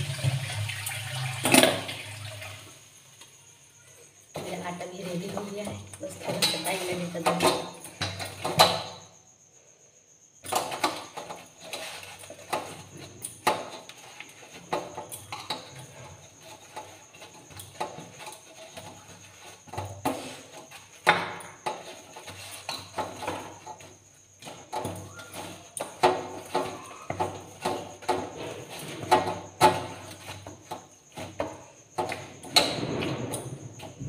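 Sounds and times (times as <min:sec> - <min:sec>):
hands working dough on steel: 0:04.3 - 0:09.1, 0:10.4 - 0:34.0.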